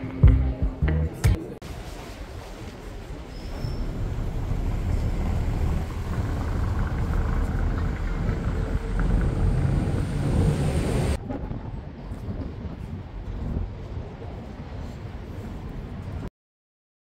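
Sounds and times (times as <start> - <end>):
low fluctuating street rumble: 0.0 - 16.3.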